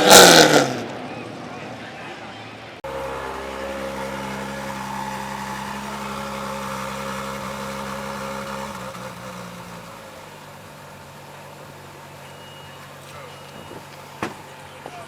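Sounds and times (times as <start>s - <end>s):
car engine idling: 2.8s - 15.0s.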